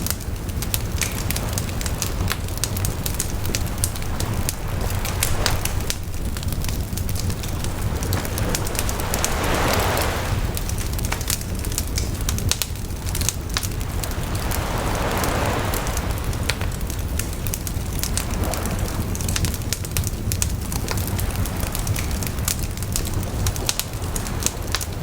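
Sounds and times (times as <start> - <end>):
campfire crackling and popping: 0.0 - 25.0
sea waves washing ashore: 0.0 - 25.0.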